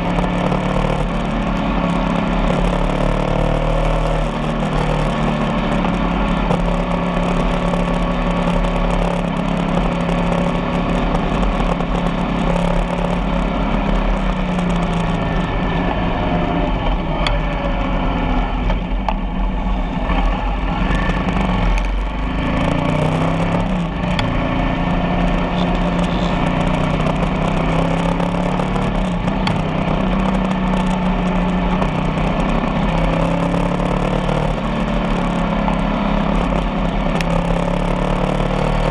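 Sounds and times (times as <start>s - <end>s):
motorcycle engine running: 0.0s - 38.9s
road noise: 0.0s - 38.9s.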